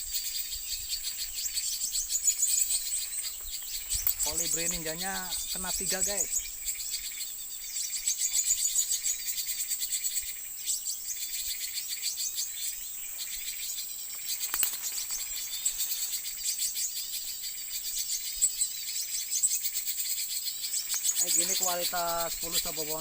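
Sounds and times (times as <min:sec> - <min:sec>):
insects buzzing: 0:00.0 - 0:23.0
small birds chirping: 0:00.0 - 0:23.0.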